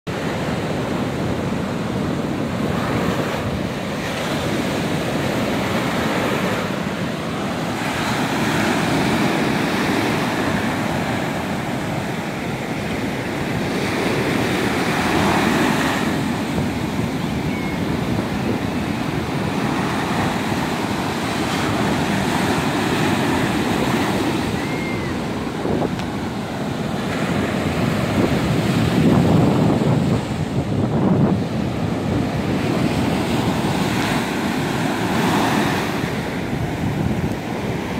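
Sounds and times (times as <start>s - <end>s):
ocean waves breaking on shore: 0.1s - 37.9s
wind on microphone: 0.1s - 37.9s.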